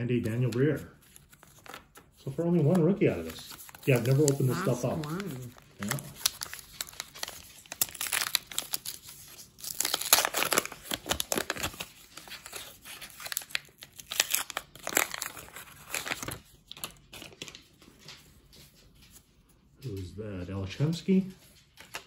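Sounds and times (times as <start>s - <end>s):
paper wrapper tearing and crinkling: 0.0s - 19.2s, 21.5s - 22.0s.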